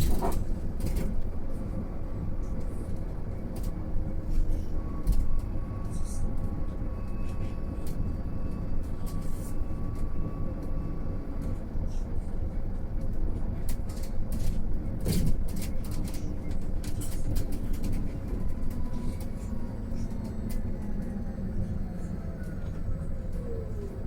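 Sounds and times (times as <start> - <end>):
road and tyre rumble: 0.0 - 24.0.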